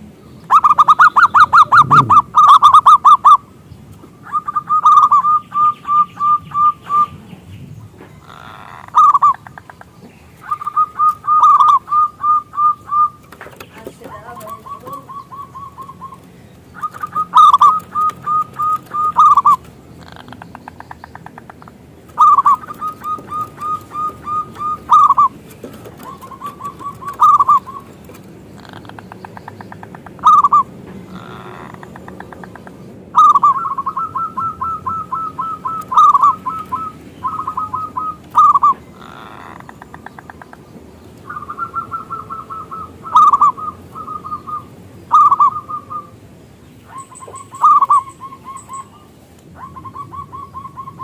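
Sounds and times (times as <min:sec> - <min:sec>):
dove cooing: 0:00.0 - 0:03.5, 0:04.2 - 0:07.2, 0:08.1 - 0:40.6, 0:41.2 - 0:46.2, 0:46.9 - 0:51.0.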